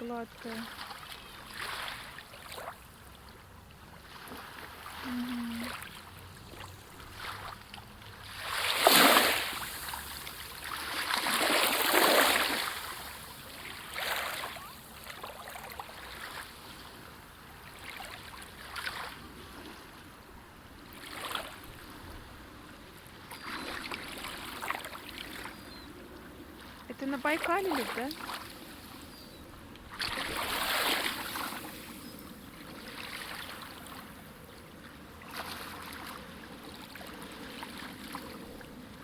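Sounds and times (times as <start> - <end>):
small waves lapping at shore: 0.0 - 39.0.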